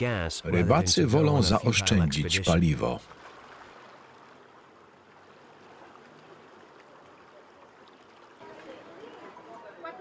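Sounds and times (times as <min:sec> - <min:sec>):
faint rushing water: 0:00.0 - 0:10.0.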